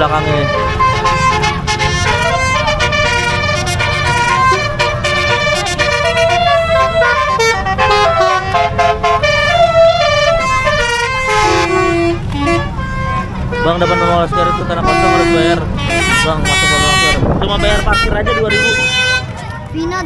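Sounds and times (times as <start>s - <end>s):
bus horns playing melodies: 0.0s - 19.4s
bus engines rumbling: 0.0s - 20.0s.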